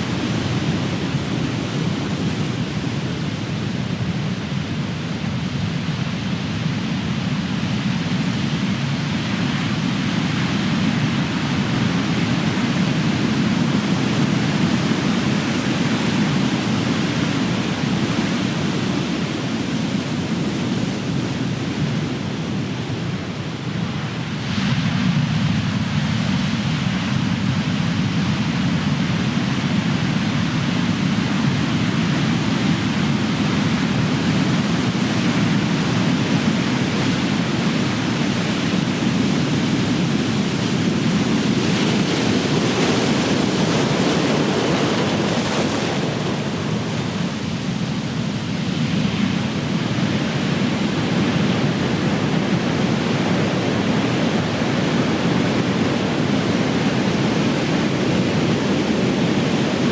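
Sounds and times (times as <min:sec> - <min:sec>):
waves crashing on shore: 0:00.0 - 0:59.9.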